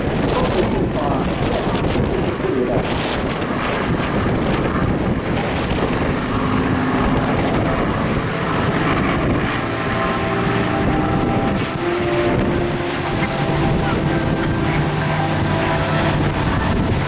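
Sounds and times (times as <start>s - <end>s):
distant aircraft engine drone: 0.0s - 17.0s
wind buffeting microphone: 0.0s - 17.0s.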